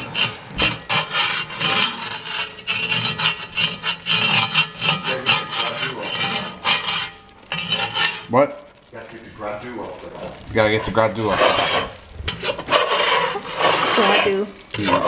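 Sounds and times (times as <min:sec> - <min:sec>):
spatula scraping pot bottom: 0:00.0 - 0:08.9, 0:10.2 - 0:15.0.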